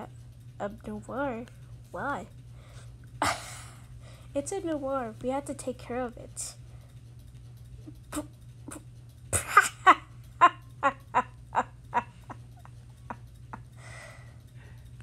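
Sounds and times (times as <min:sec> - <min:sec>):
low microphone hum: 0:00.0 - 0:15.0.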